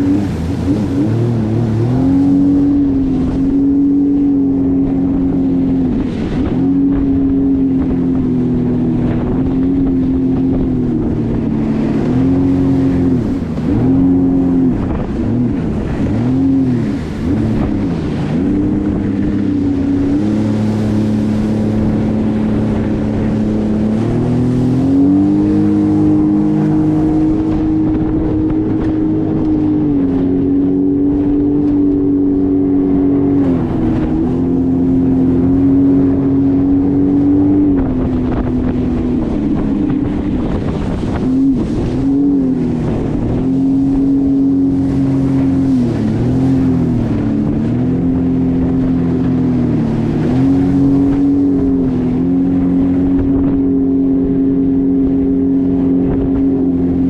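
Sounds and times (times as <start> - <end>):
jet ski engine running: 0.0 - 57.0.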